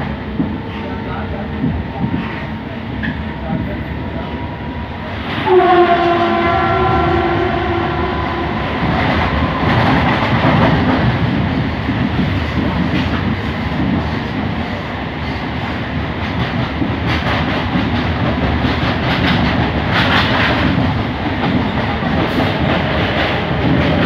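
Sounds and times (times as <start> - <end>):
train clattering: 0.0 - 4.5, 5.1 - 24.0
train wheels rumbling on track: 0.0 - 24.0.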